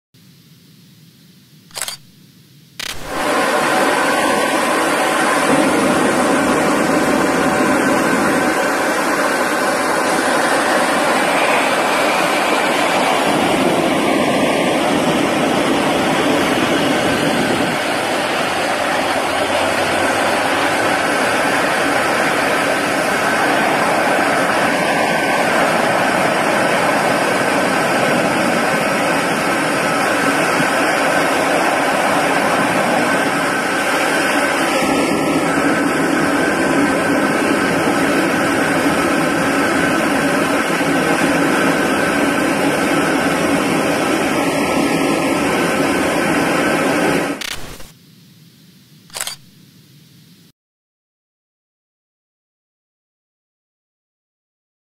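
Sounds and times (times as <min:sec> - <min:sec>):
steady loud roar with hiss: 0:02.8 - 0:48.0.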